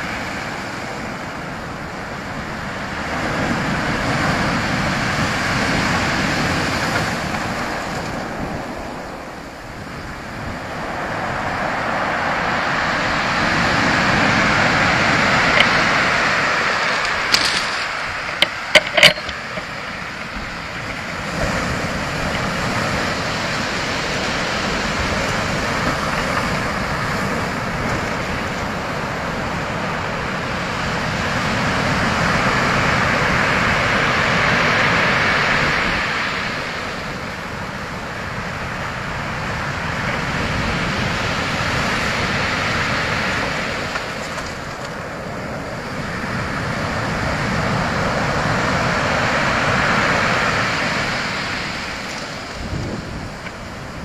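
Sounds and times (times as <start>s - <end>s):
surf washing over shingle: 0.0s - 54.0s.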